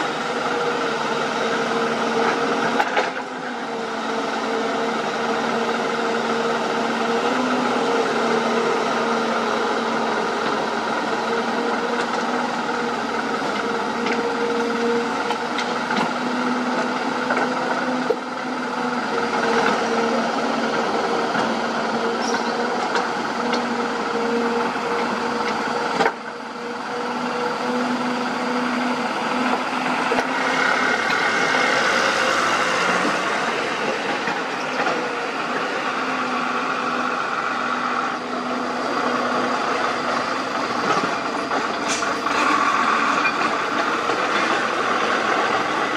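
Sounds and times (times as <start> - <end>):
excavator diesel engine: 0.0 - 45.9.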